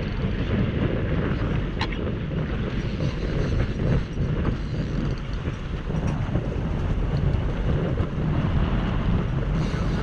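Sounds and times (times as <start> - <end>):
boat motor running: 0.0 - 10.0
wind on microphone: 0.0 - 10.0.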